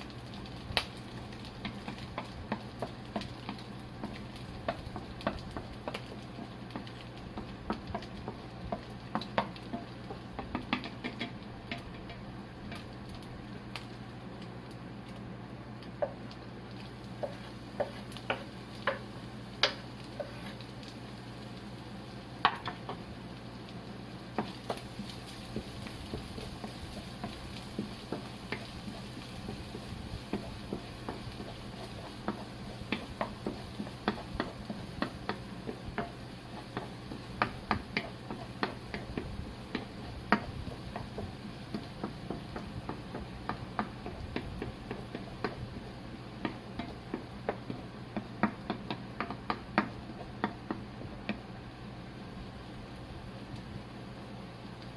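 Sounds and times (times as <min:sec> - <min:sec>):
spatula tapping a frying pan: 0:00.0 - 0:14.4, 0:15.8 - 0:51.5
food sizzling: 0:00.0 - 0:54.9
steady low hum: 0:00.0 - 0:54.9.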